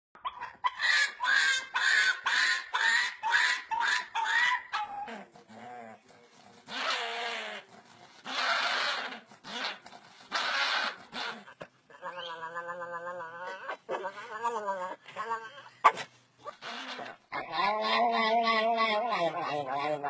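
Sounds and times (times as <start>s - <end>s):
dog making pig-like calls: 0.2s - 20.0s.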